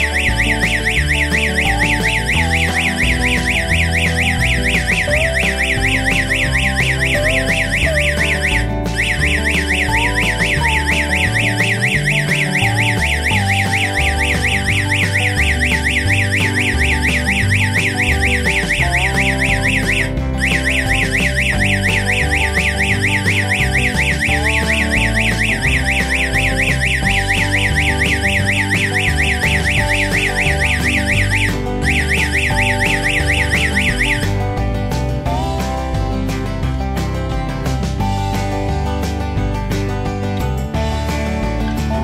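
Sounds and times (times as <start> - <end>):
electronic alarm warble: 0.0 - 34.4
background music: 0.0 - 42.0.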